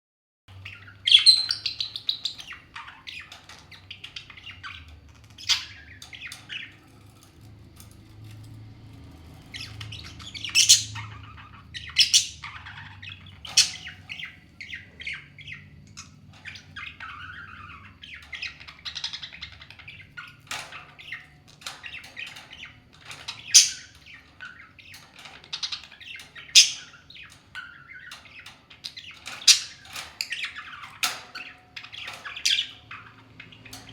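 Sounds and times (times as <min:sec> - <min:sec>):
parrots squawking and chirping: 0:00.5 - 0:33.9.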